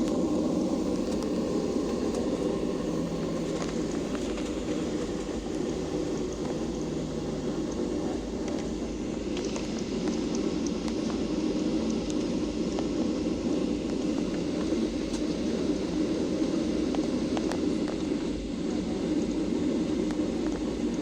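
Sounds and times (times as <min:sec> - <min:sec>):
airplane cabin drone: 0:00.0 - 0:21.0
faint steady hum: 0:00.0 - 0:21.0.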